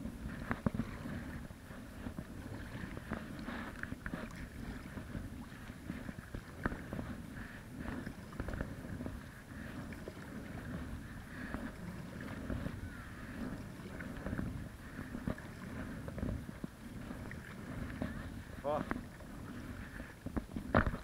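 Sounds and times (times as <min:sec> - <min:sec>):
paddle splashing in water: 0:00.0 - 0:21.0
wind on microphone: 0:00.0 - 0:21.0.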